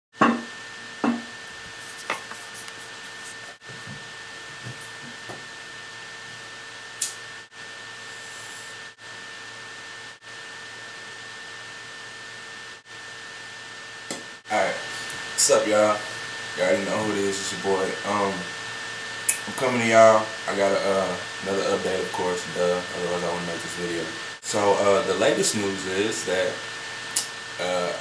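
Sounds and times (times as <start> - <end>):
steady hiss with hum: 0.6 - 28.0.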